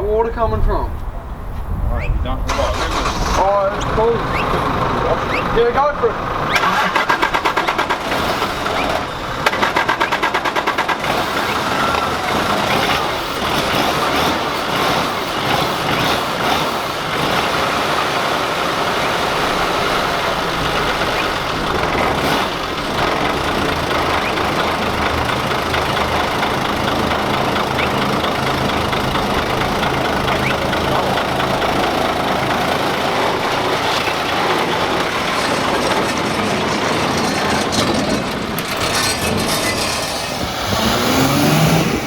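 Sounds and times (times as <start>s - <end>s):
diesel engine cranking: 2.4s - 42.0s
diesel engine idling: 2.5s - 38.9s, 40.2s - 42.0s.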